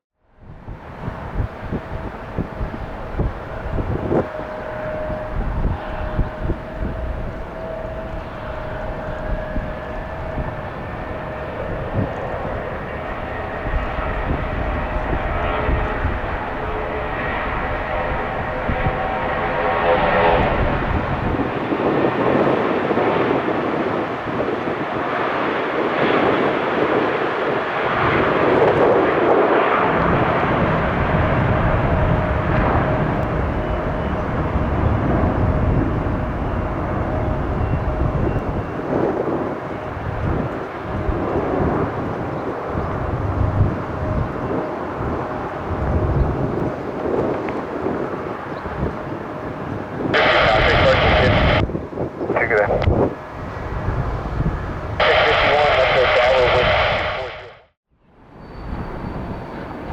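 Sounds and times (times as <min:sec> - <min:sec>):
jet engines roaring at takeoff: 0:00.4 - 0:59.9
high engine whine: 0:01.0 - 0:24.5, 0:29.9 - 0:59.9.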